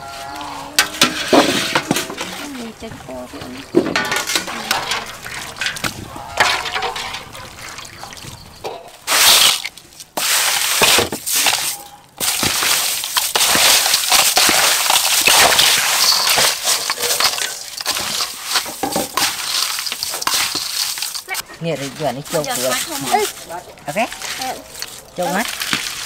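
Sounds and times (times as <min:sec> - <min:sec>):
crushed ice crunching in bowl: 0:00.2 - 0:08.3, 0:09.1 - 0:26.0.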